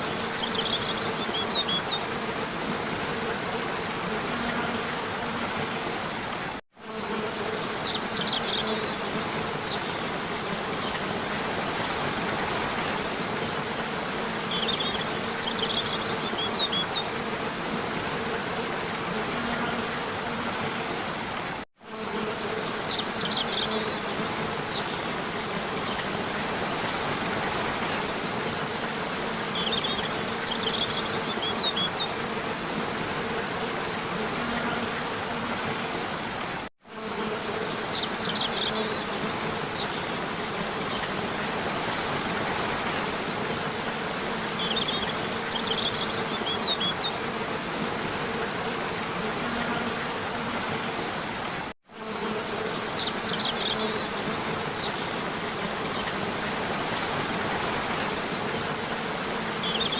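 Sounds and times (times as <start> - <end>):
insect buzzing: 0.0 - 59.9.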